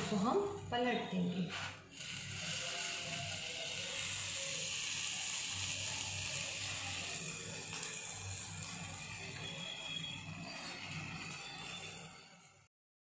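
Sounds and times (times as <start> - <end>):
flatbread sizzling on hot iron: 0.0 - 12.7.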